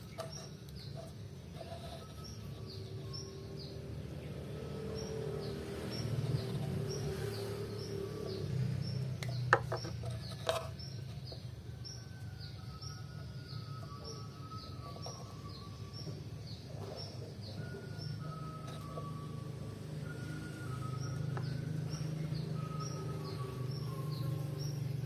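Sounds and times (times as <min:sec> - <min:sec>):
bird chirping: 0:00.0 - 0:25.0.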